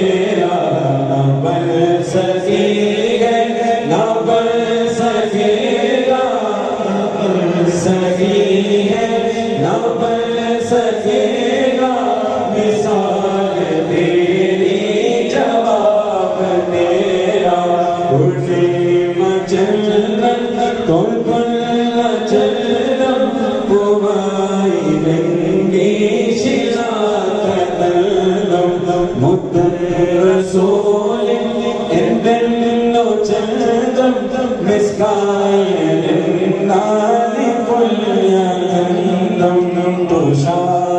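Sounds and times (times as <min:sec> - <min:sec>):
men singing together: 0:00.0 - 0:40.9.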